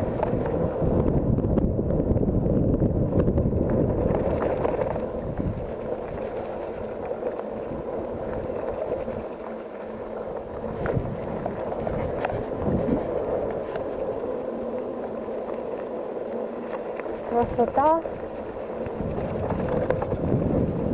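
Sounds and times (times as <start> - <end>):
bicycle tyres rolling: 0.0 - 20.9
bike rattling: 0.0 - 20.9
wind buffeting microphone: 0.0 - 20.9.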